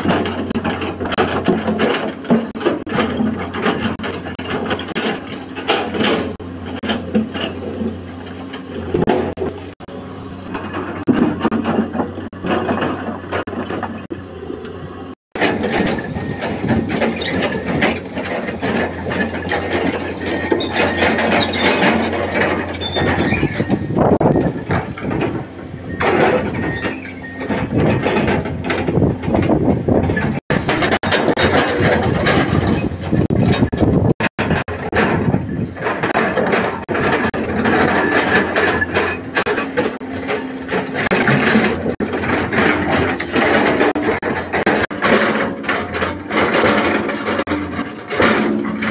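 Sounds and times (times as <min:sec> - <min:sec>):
steel bucket clattering rocks: 0:00.0 - 0:09.8, 0:10.4 - 0:14.2, 0:15.3 - 0:48.9
excavator diesel engine humming: 0:00.0 - 0:48.9.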